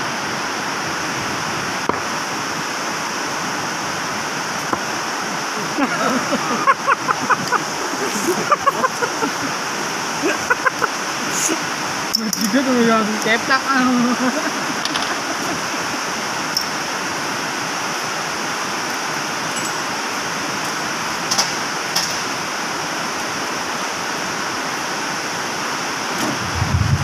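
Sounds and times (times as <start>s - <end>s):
steady rushing air noise: 0.0s - 21.8s, 25.2s - 27.0s.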